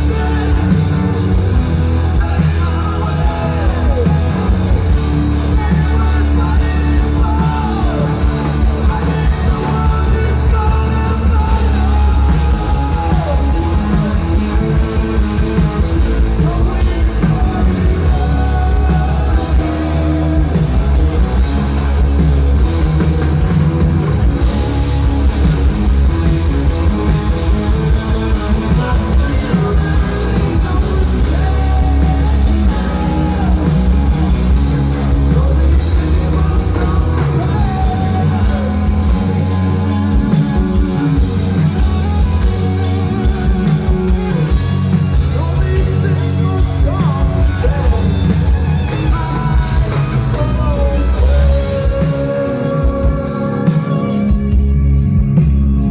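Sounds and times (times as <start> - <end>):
person singing: 0.0 - 21.0, 27.8 - 54.5
bass: 0.0 - 55.9
distorted electric guitars: 0.0 - 55.9
drums: 0.0 - 55.9.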